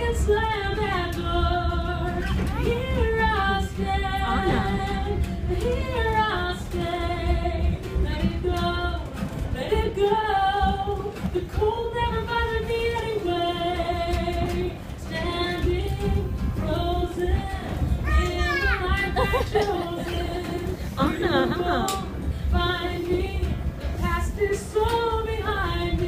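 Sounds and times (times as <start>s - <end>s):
acoustic guitar: 0.0s - 26.0s
woman singing: 0.0s - 26.0s.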